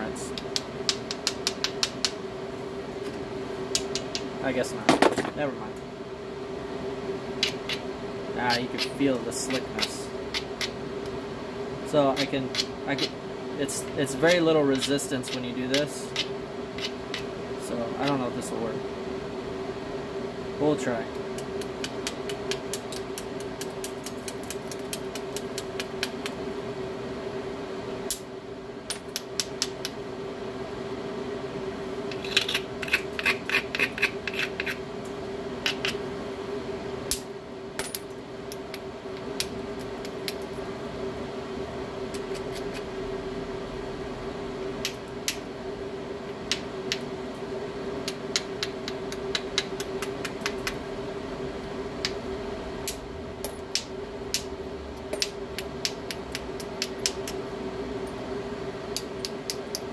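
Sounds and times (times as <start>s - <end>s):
fan humming: 0.0s - 59.9s.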